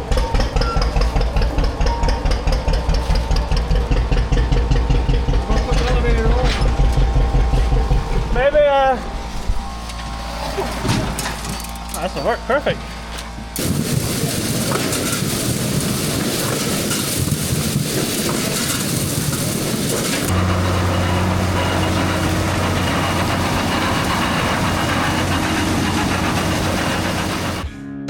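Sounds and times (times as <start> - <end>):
tractor engine with field machinery: 0.0 - 27.7
low hum: 0.0 - 28.0.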